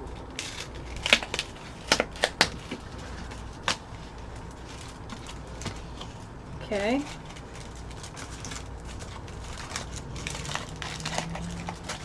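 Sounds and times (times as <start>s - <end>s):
wrapper crackling: 0.0s - 6.4s, 7.0s - 12.0s.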